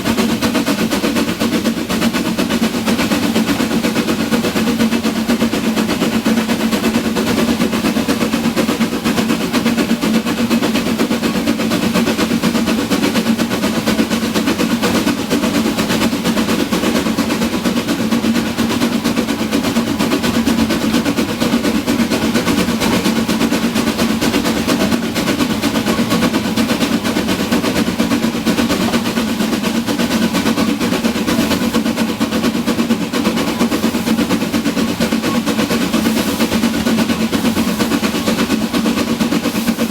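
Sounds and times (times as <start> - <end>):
train clattering: 0.0 - 39.9
train low hum: 0.0 - 39.9.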